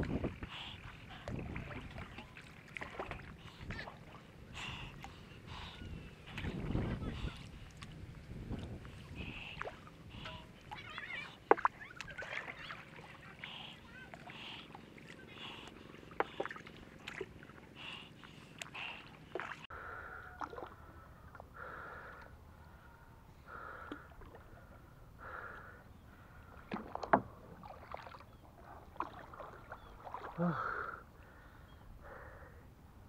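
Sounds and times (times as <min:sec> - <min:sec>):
paddle strokes swishing through water: 0:00.0 - 0:19.7, 0:23.5 - 0:32.4.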